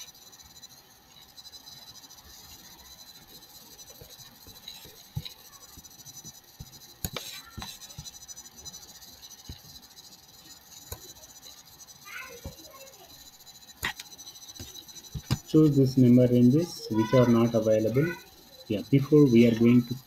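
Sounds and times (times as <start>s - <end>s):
high-pitched electrical whines: 0.0s - 20.0s.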